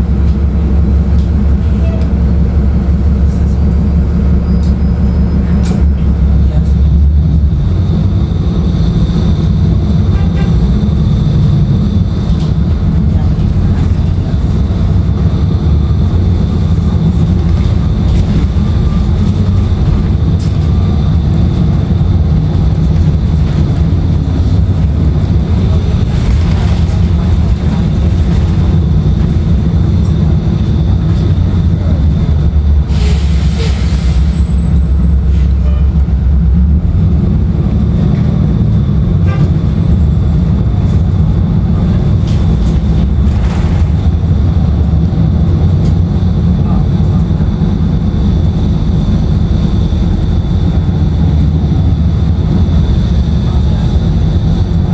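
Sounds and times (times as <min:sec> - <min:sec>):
bus diesel engine drone: 0:00.0 - 0:54.9.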